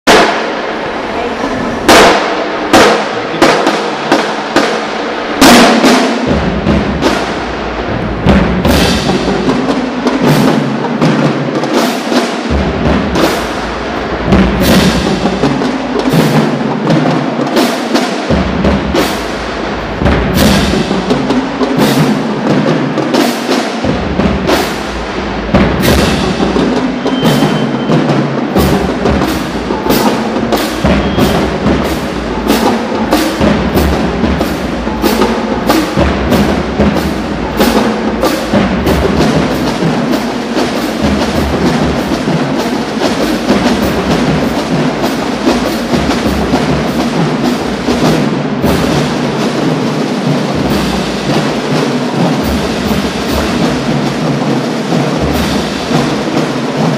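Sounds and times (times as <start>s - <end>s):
snare drums playing: 0.0s - 0.9s, 1.5s - 56.9s
bass drums: 5.4s - 11.5s, 12.5s - 17.1s, 18.2s - 23.0s, 23.8s - 56.9s.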